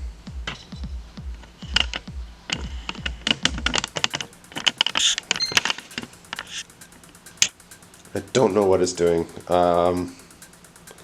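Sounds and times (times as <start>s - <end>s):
low pulsing sound: 0.0s - 11.0s
rapid clicking and tapping: 0.0s - 11.0s.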